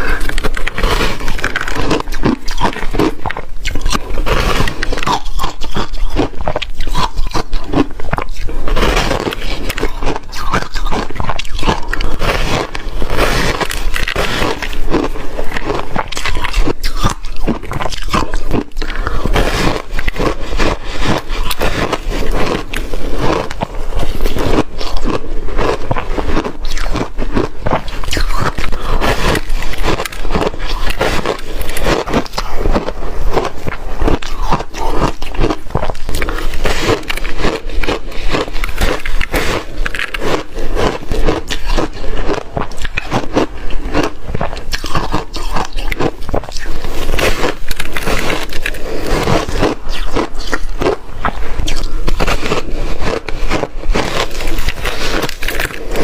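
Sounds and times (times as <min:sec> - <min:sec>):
ice crunching being chewed: 0:00.0 - 0:56.0.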